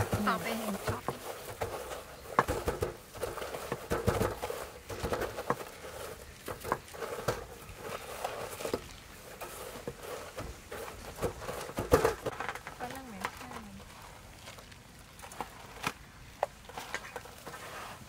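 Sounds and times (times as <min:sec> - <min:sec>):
breadcrumbs rustling and pattering: 0:00.0 - 0:18.0.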